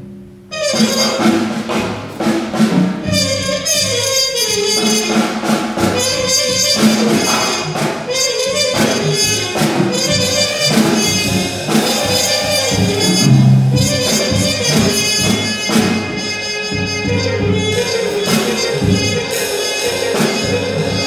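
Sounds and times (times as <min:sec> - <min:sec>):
loose drumming with cymbals: 0:00.5 - 0:21.0
trumpet playing bending phrases: 0:00.5 - 0:21.0.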